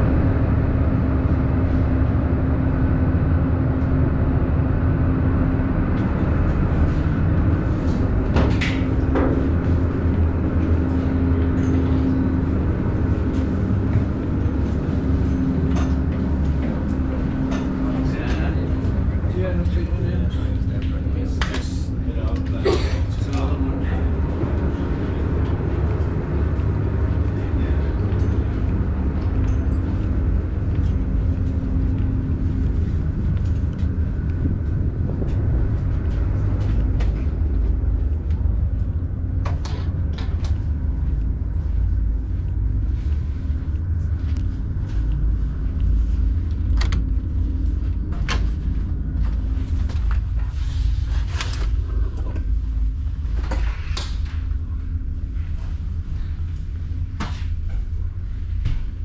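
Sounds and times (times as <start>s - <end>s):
ship engines rumbling: 0.0s - 59.0s.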